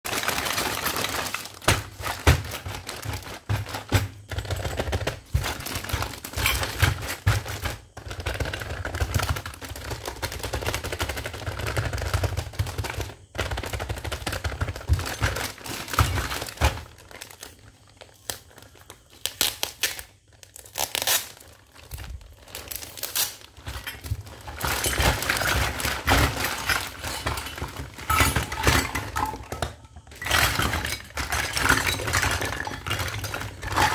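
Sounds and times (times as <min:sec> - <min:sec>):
plastic bag crinkling: 0:00.1 - 0:33.9
plastic and metal toys clacking: 0:00.2 - 0:17.4, 0:22.8 - 0:33.9.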